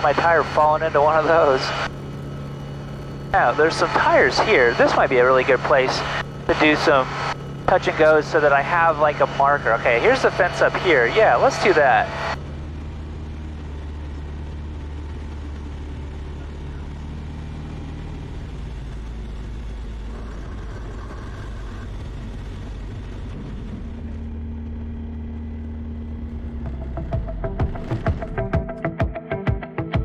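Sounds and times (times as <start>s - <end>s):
light aircraft engine droning: 0.0s - 28.4s.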